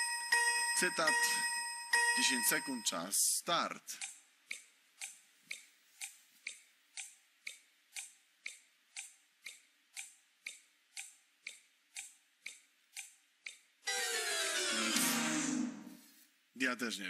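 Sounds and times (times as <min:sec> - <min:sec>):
countdown clock ticking: 0:00.0 - 0:15.9.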